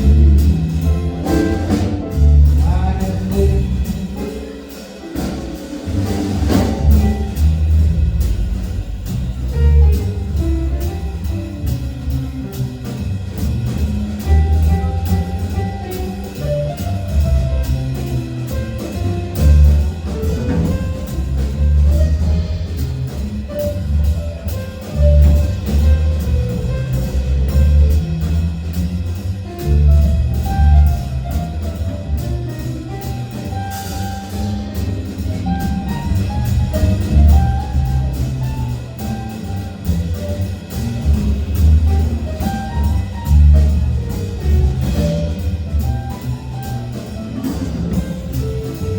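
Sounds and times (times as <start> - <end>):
pulsing bass line: 0.0 - 4.2, 5.9 - 48.9
drum kit: 0.0 - 48.9
jazzy instrumental band: 0.0 - 48.9
moving melody: 0.0 - 48.9.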